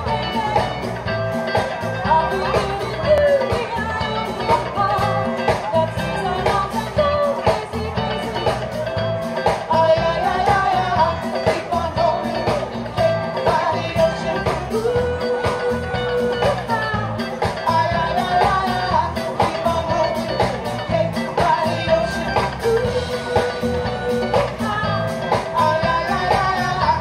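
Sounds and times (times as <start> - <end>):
woman singing: 0.0 - 1.2, 2.0 - 27.0
live band playing: 0.0 - 27.0.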